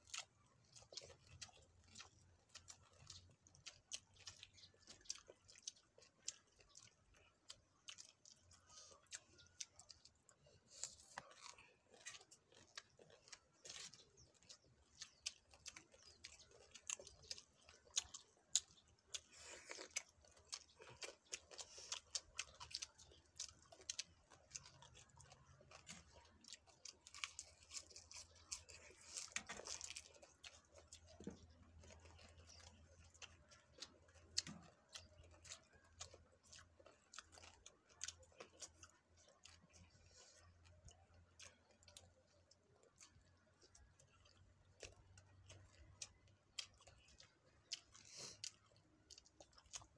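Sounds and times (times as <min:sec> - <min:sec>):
close chewing crunches: 0:00.0 - 0:49.9
fingers picking through salad: 0:00.0 - 0:49.9.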